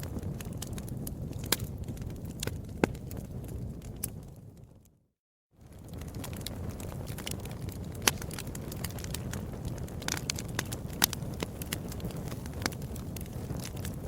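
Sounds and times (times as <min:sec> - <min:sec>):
fire crackling: 0:00.0 - 0:05.0, 0:05.6 - 0:14.0.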